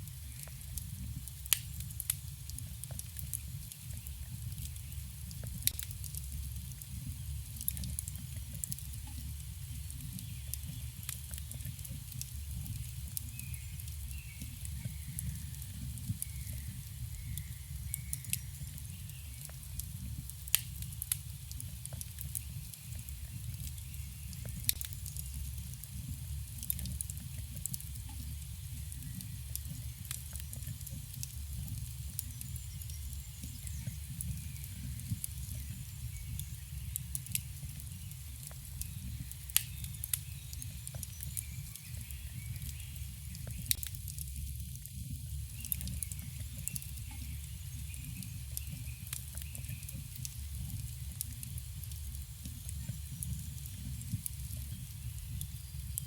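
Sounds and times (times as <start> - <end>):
low rumble of flames: 0.0 - 56.0
wood crackling and popping: 0.0 - 56.0.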